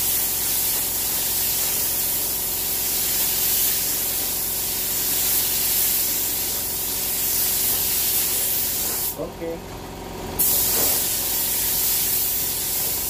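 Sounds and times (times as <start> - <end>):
paint spray gun hissing: 0.0 - 9.2, 10.4 - 13.0.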